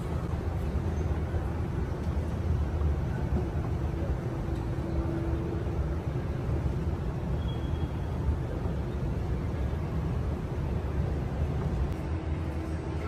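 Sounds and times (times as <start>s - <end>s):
faint hum: 0.0s - 13.0s
low rumble and hiss: 0.0s - 13.0s.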